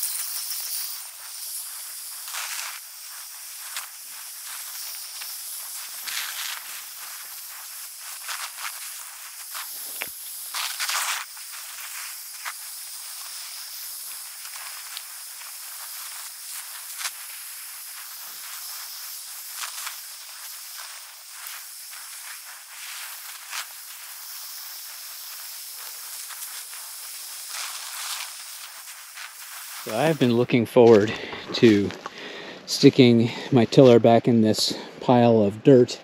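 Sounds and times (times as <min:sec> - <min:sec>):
hose nozzle spraying water on soil: 0:00.0 - 0:35.8.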